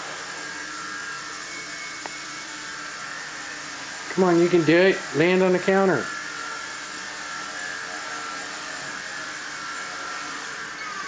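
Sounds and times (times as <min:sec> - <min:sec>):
rc helicopter motor whine: 0:00.0 - 0:11.0.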